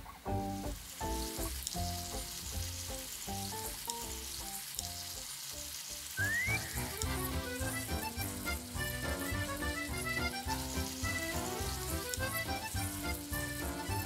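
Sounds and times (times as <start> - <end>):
bread sizzling in butter: 0.3 - 14.0.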